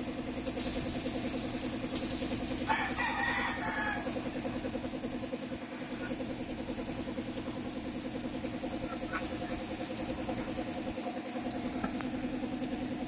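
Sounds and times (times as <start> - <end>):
motor running with fast pulse: 0.4 - 12.6.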